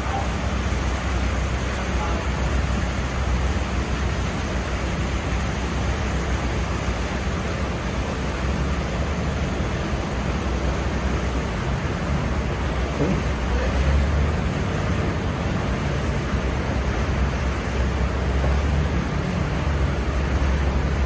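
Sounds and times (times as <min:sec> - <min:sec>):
ship engine low rumble: 0:00.0 - 0:21.0
wind and water rushing: 0:00.0 - 0:21.0.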